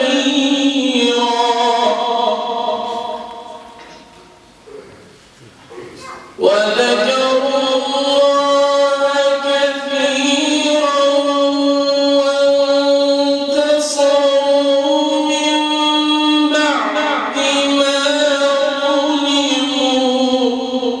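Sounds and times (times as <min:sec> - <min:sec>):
man reciting melodically: 0:00.0 - 0:03.8, 0:06.3 - 0:21.0.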